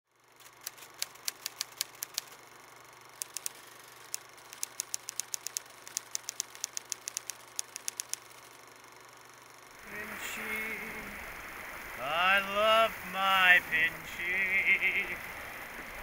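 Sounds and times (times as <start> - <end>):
faint hum and hiss: 0.1 - 16.0.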